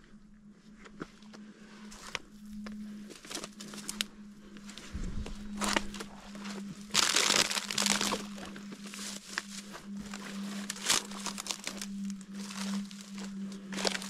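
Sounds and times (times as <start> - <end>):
steady low hum: 0.0 - 14.0
footsteps on forest trail: 0.7 - 14.0
sharp crackle: 2.0 - 14.0.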